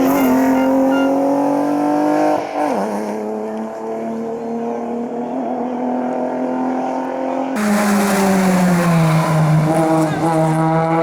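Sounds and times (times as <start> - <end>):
racing car engine: 0.0 - 11.0.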